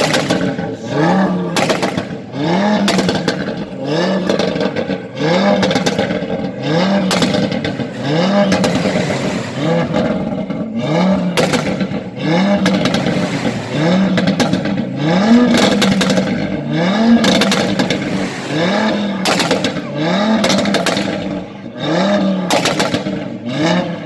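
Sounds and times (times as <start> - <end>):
car engine revving: 0.0 - 24.0
exhaust crackles: 0.0 - 24.0.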